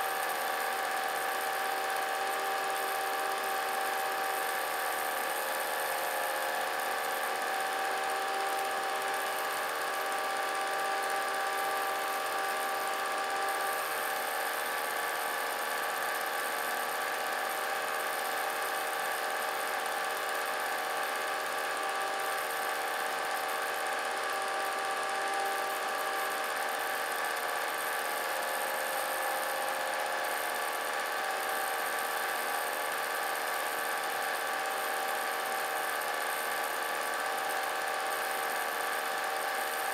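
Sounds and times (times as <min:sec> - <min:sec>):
film projector motor whirring: 0:00.0 - 0:39.9.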